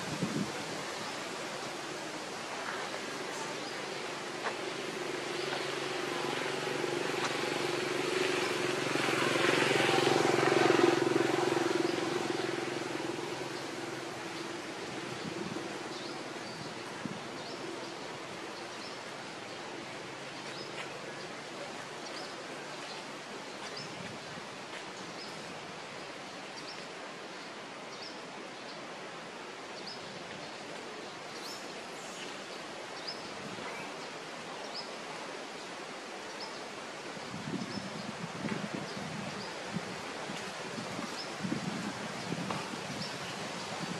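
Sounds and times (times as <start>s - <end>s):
outdoor background noise: 0.0s - 43.9s.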